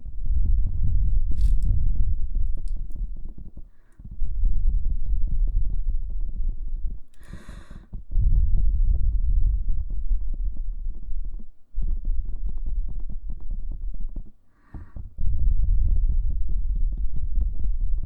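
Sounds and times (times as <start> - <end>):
muffled low contact rumble: 0.0 - 18.0.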